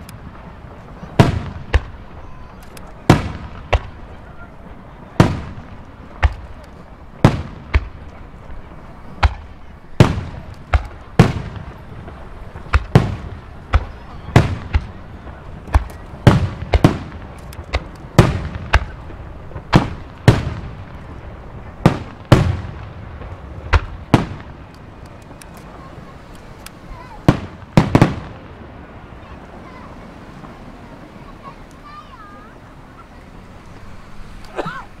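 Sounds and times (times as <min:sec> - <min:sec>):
fireworks booming with echo: 0:00.0 - 0:33.1.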